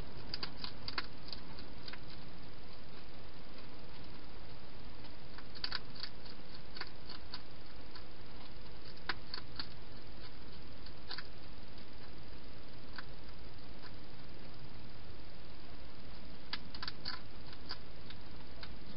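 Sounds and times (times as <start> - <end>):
steady background hiss: 0.0 - 18.9
hedgehog chewing clicks: 0.2 - 12.2, 12.8 - 14.0, 16.5 - 18.9.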